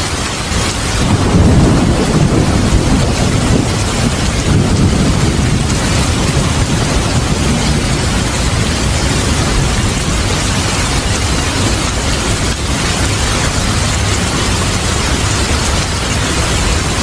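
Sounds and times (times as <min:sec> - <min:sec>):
heavy rain: 0:00.0 - 0:17.0
rumble of thunder: 0:00.6 - 0:17.0.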